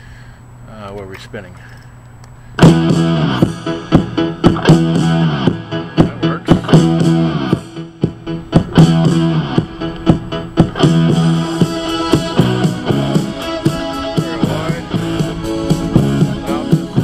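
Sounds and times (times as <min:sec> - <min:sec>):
guitar music with steady beat: 0:02.6 - 0:17.0.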